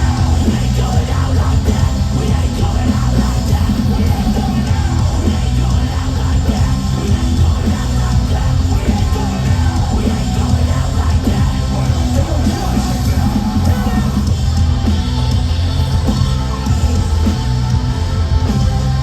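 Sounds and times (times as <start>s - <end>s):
shouted vocals: 0.0s - 15.2s
heavy rock band playing live: 0.0s - 19.0s.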